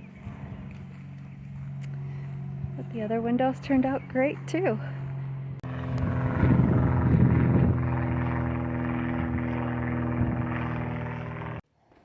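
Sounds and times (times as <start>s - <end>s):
motor humming: 0.0s - 11.6s.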